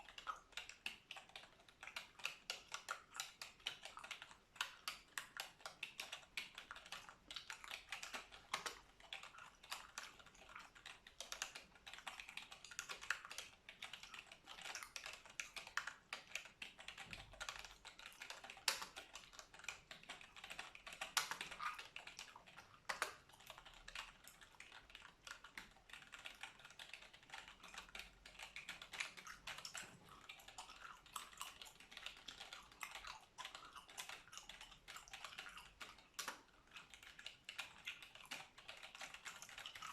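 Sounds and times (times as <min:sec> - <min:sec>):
gum chewing: 0:00.0 - 0:39.9
keyboard typing: 0:00.2 - 0:39.9.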